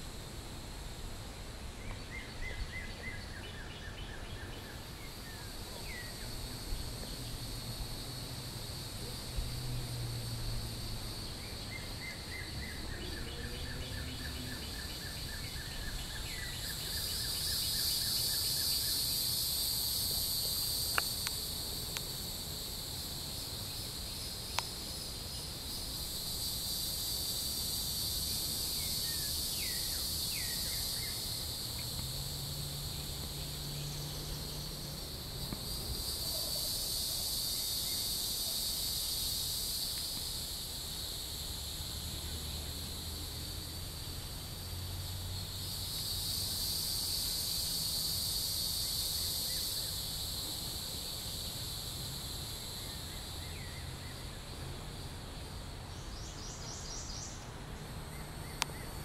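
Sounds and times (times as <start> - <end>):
cicada buzzing: 0.0 - 59.0.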